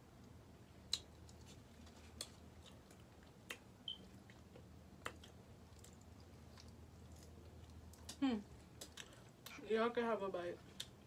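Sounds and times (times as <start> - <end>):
quiet room hum: 0.0 - 11.0
mouth clicks and smacks chewing: 0.8 - 9.6, 10.7 - 11.0.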